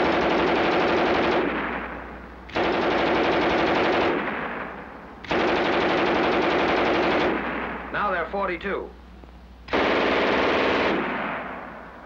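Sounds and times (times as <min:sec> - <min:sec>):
machine gun firing bursts: 0:00.0 - 0:08.0, 0:09.7 - 0:11.8.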